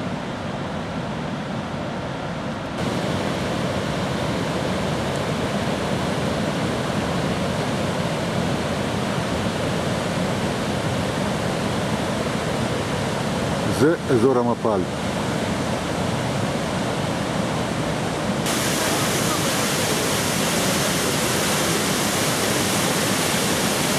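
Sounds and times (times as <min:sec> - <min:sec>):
river rushing over rapids: 0:00.0 - 0:23.9.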